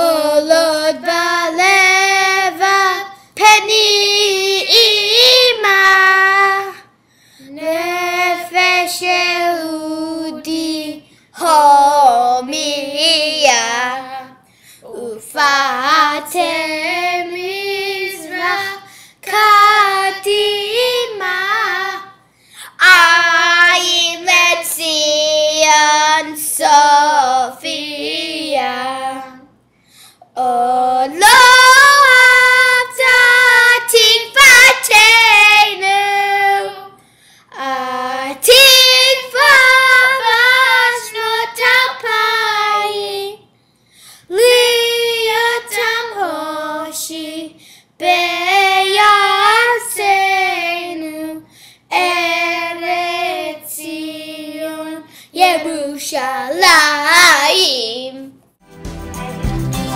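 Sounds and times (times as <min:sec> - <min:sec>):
child singing: 0:00.0 - 0:06.9, 0:07.5 - 0:29.6, 0:30.4 - 0:43.5, 0:44.3 - 0:58.4.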